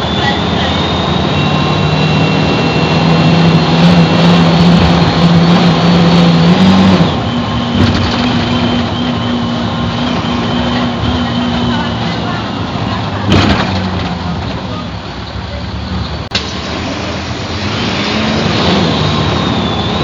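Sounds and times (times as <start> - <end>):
bus diesel engine under load: 0.0 - 20.0.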